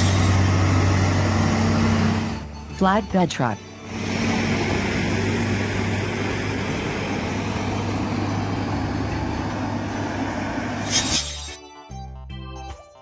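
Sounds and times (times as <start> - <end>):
heavy diesel engine droning: 0.0 - 11.3.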